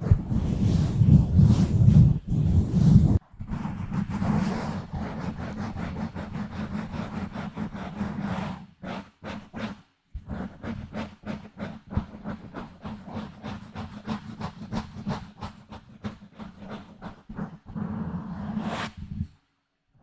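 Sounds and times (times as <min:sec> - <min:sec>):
fingers scratching on microphone: 0:00.0 - 0:19.3.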